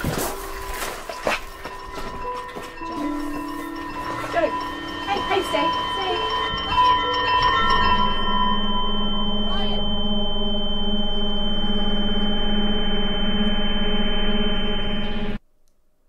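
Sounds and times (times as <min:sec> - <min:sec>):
high-pitched ringing tone: 0:00.0 - 0:15.4
low drone and chord: 0:00.0 - 0:15.4.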